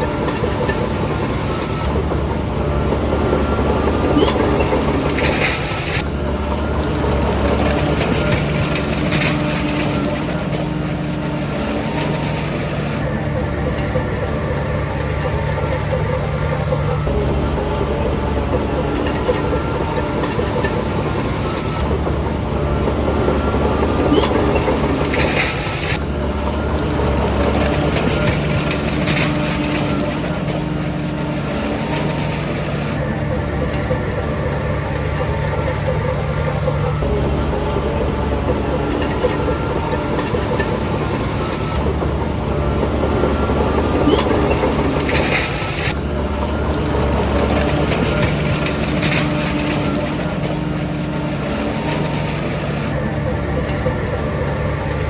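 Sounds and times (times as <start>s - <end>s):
bulldozer diesel engine running: 0.0s - 55.0s
machine clanking: 0.0s - 55.0s
steel tracks clattering: 0.0s - 55.0s.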